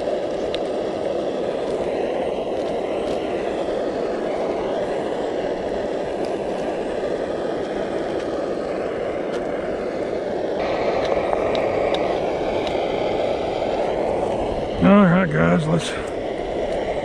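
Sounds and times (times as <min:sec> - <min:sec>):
camp stove burner rushing: 0:00.0 - 0:17.0
mushrooms sizzling in butter: 0:00.0 - 0:17.0.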